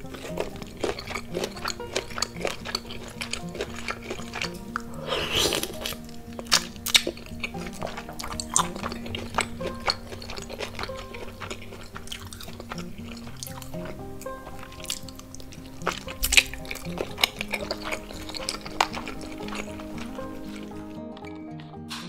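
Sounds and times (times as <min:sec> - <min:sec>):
sucking sauce off fingers: 0:00.0 - 0:21.4
chewing with wet clicks: 0:00.0 - 0:21.8
background music: 0:00.0 - 0:22.0.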